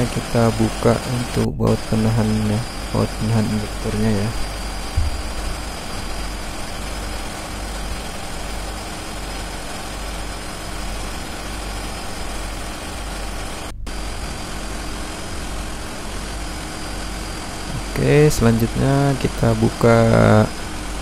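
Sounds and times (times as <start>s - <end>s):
engine room machinery rumbling: 0.0s - 21.0s.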